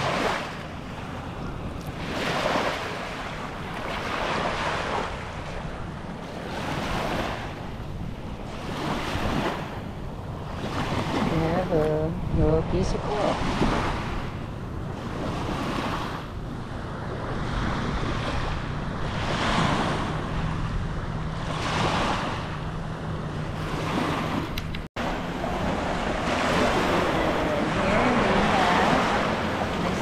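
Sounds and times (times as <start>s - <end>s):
small waves washing onto sand: 0.0s - 22.6s, 23.5s - 30.0s
wind buffeting microphone: 0.0s - 30.0s.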